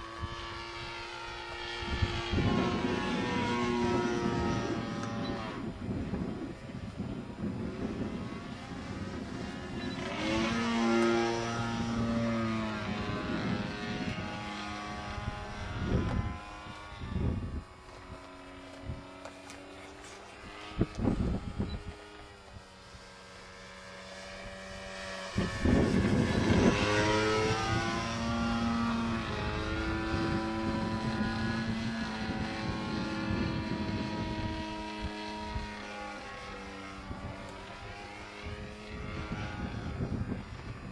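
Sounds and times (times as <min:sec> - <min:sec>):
propeller plane flying past: 0:00.0 - 0:40.9.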